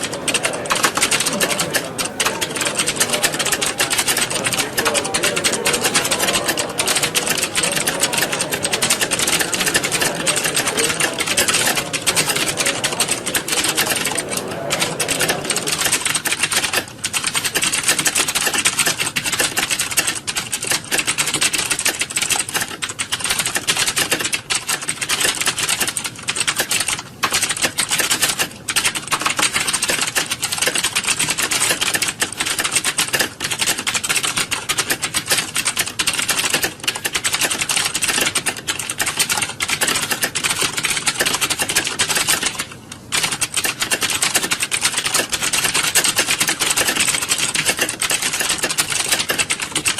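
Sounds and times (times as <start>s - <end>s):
keyboards typing clatter: 0.0s - 49.9s.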